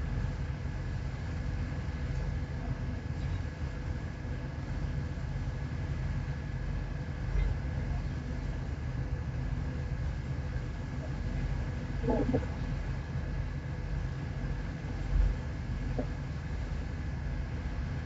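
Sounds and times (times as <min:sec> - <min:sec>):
ship engine droning: 0:00.0 - 0:18.0.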